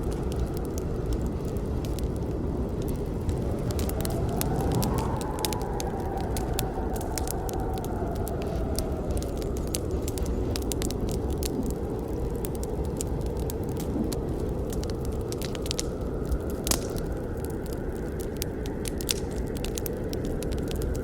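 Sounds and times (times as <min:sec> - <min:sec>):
burning wood crackling and popping: 0:00.0 - 0:21.0
rush of flames: 0:00.0 - 0:21.0.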